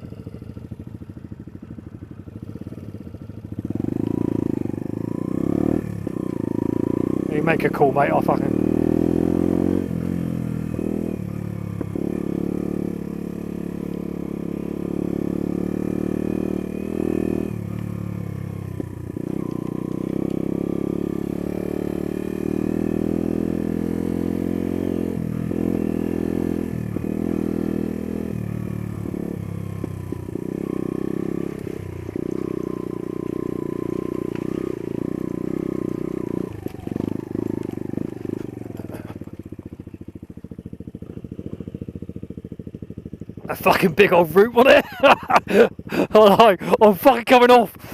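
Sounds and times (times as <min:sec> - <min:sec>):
off-road motorcycle engine revving: 0:00.0 - 0:47.9.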